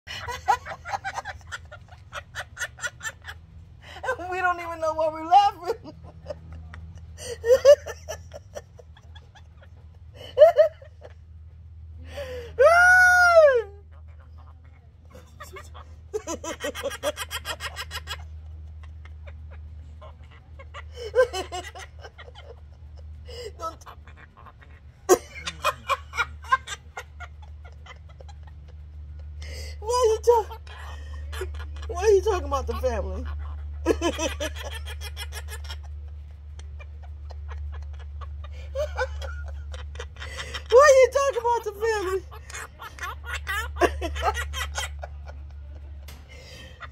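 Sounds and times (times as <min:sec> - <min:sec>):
rapid laughter: 0:00.1 - 0:11.4, 0:12.1 - 0:46.9
steady low hum: 0:00.1 - 0:46.9.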